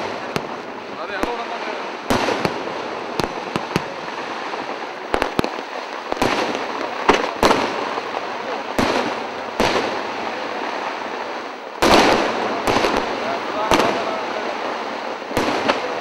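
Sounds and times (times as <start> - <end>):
firework crackle: 0.0 - 16.0
firework shells bursting: 0.0 - 16.0.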